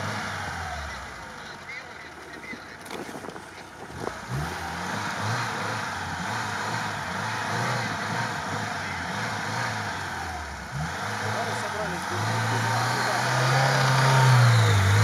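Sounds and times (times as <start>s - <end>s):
car engine revving hard: 0.0s - 1.3s, 4.0s - 15.0s.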